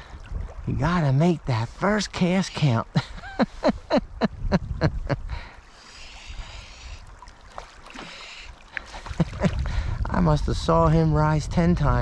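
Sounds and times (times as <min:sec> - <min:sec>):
creek water over rocks: 0:00.0 - 0:10.3.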